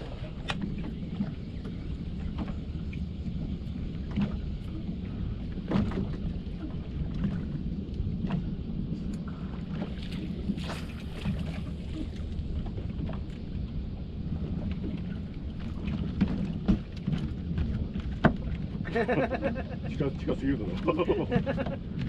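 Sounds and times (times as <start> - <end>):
boat engine low rumble: 0.0 - 22.0
water splashes: 0.0 - 22.0.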